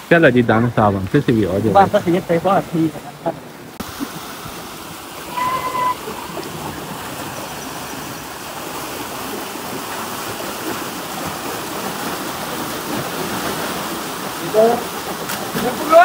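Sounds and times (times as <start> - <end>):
water rushing into a channel: 0.0 - 16.0.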